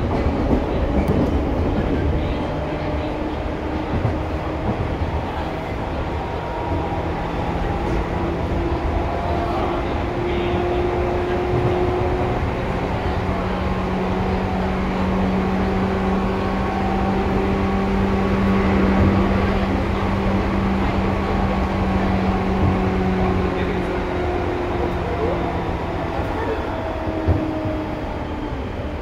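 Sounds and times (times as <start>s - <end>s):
wheels rumbling on rails: 0.0s - 29.0s.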